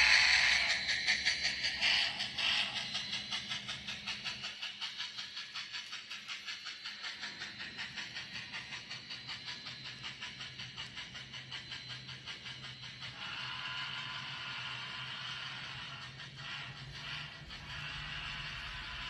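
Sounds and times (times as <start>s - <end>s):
model steam locomotive chuffing: 0.0s - 19.0s
steam hiss: 0.0s - 19.0s.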